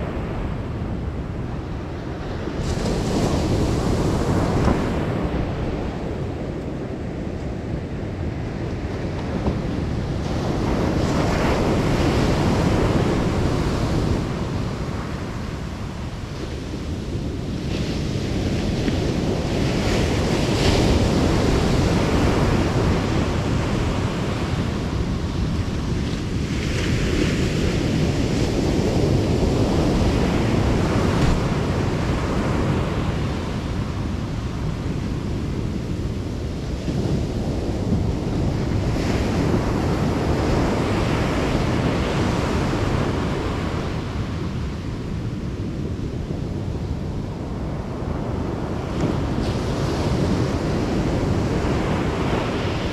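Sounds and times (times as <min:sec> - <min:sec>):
ocean surf breaking: 0:00.0 - 0:52.9
wind rumbling on microphone: 0:00.0 - 0:52.9.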